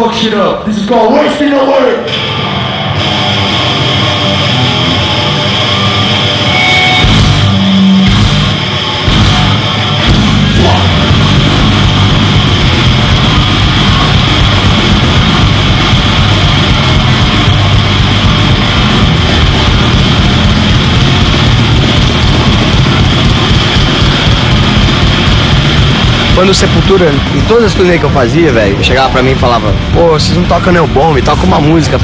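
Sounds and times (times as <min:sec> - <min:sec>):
distorted electric guitars: 0:00.0 - 0:32.0
drums: 0:00.0 - 0:32.0
bass guitar: 0:02.0 - 0:32.0.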